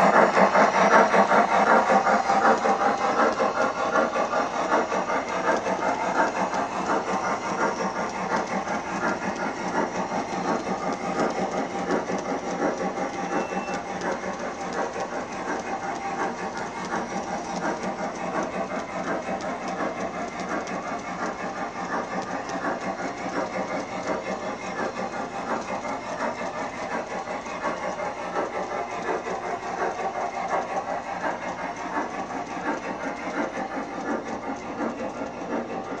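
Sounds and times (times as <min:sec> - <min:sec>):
steam hiss: 0:00.0 - 0:35.9
model train wheels rolling: 0:00.0 - 0:36.0.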